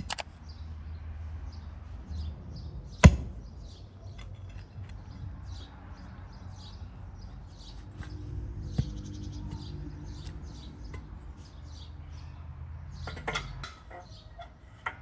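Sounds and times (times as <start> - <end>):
low outdoor rumble: 0.0 - 14.8
small birds chirping: 0.0 - 15.0.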